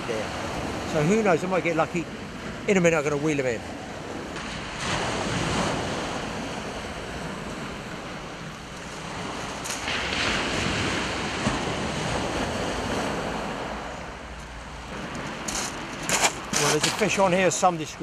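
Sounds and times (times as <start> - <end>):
small waves on shingle beach: 0.0 - 18.0
wind buffeting microphone: 0.0 - 18.0.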